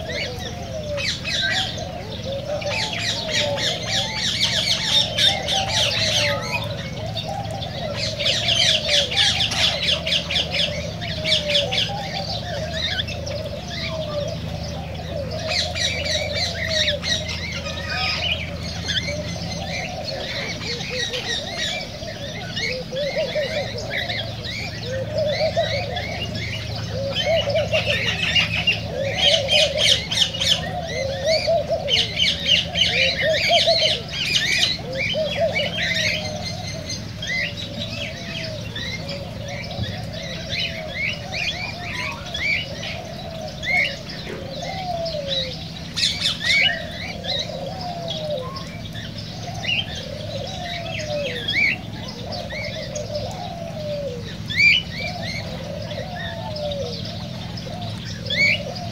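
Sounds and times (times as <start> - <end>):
bird cooing call: 0.0 - 58.9
birds chirping and chattering: 0.0 - 58.9.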